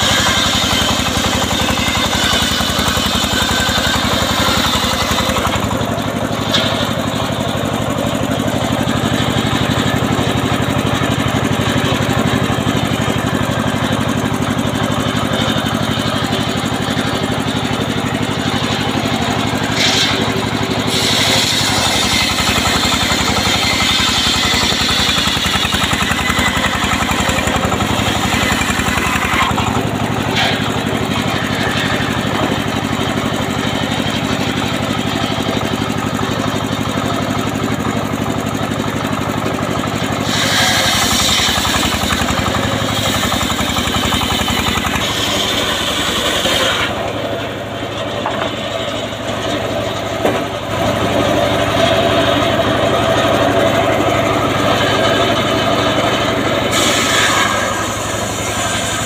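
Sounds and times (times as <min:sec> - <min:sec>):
circular saw cutting wood: 0:00.0 - 0:59.0
engine running: 0:00.0 - 0:59.0.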